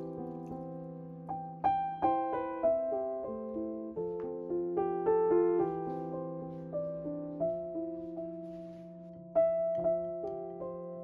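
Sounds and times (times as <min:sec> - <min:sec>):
soft piano notes: 0:00.0 - 0:11.0.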